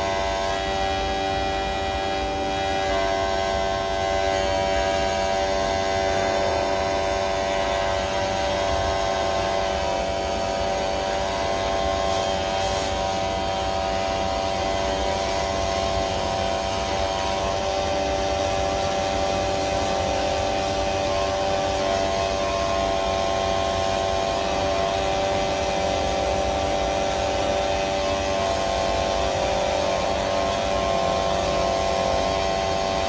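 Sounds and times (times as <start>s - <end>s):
welding arc buzzing hum: 0.0s - 33.0s.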